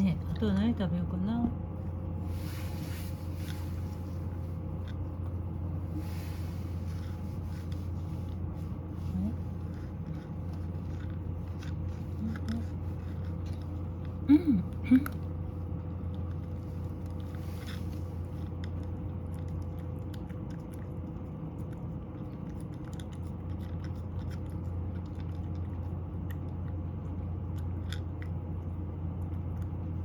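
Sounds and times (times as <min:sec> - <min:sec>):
low hum: 0:00.0 - 0:30.0
cat crunching dry kibble: 0:03.2 - 0:05.8, 0:06.6 - 0:14.3, 0:15.1 - 0:30.0.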